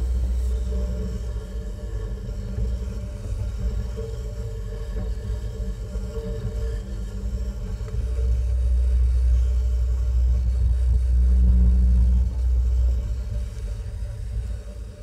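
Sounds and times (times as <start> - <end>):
deep rumbling drone: 0.0 - 15.0.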